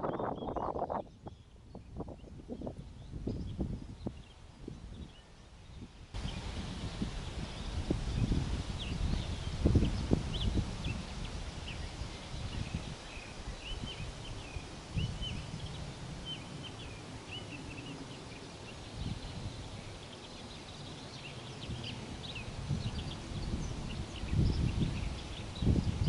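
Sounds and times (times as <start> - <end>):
small birds chirping: 0.0 - 26.0
wind rumble on microphone: 0.0 - 26.0.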